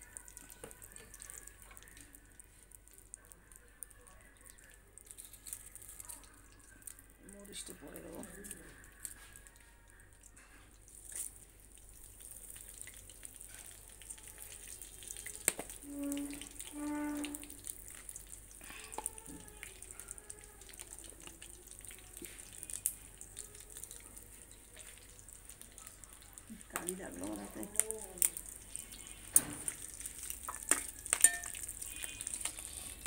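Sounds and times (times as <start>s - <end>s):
oil sizzling and crackling: 0.0s - 33.0s.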